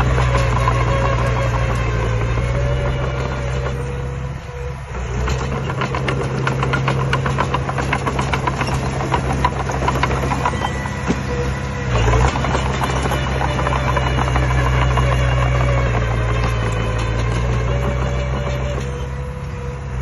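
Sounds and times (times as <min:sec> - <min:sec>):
bulldozer diesel engine: 0:00.0 - 0:20.0
clatter of steel tracks: 0:00.0 - 0:20.0.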